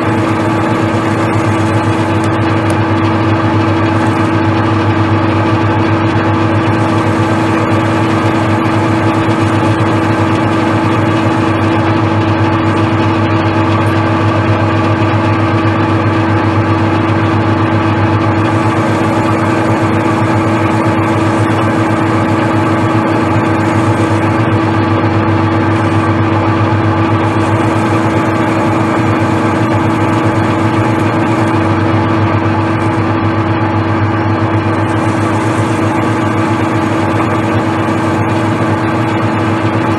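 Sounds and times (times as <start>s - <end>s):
metal lathe humming: 0.0s - 39.9s.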